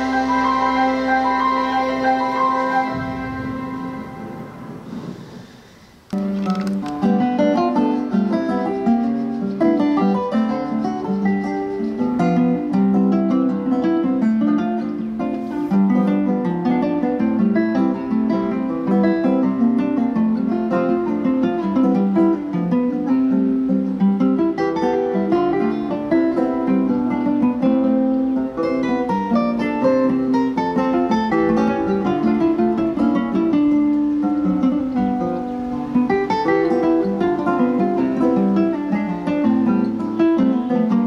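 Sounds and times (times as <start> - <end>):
acoustic guitar music: 0.0 - 41.0.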